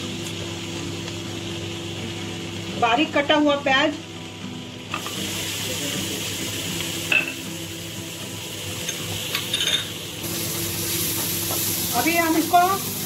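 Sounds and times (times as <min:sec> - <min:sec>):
onion sizzling in a frying pan: 0:00.0 - 0:13.0.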